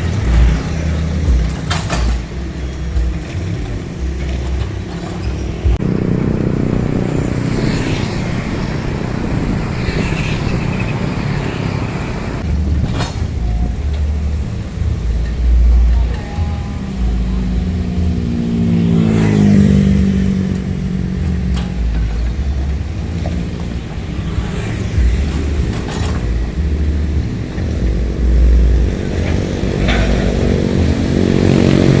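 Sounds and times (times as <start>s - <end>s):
excavator diesel engine revving: 0.0s - 32.0s.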